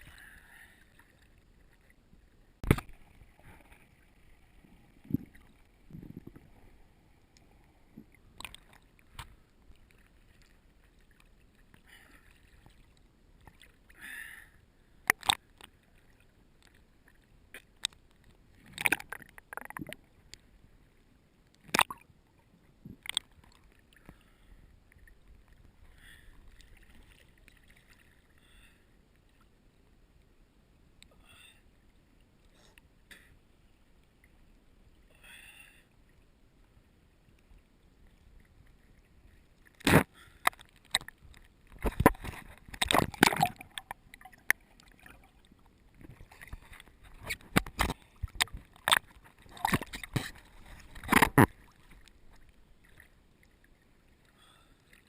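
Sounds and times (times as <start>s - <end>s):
faint water sloshing: 0.0s - 29.6s, 36.0s - 55.0s.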